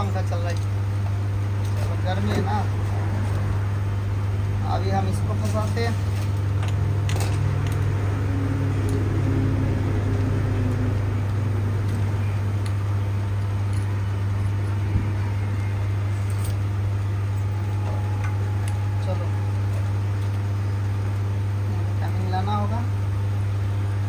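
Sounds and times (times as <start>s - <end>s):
electric fans humming: 0.0s - 24.0s.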